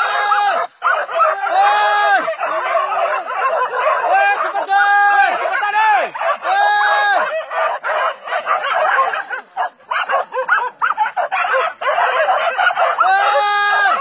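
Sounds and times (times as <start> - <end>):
dogs barking and yelping: 0.0 - 14.0.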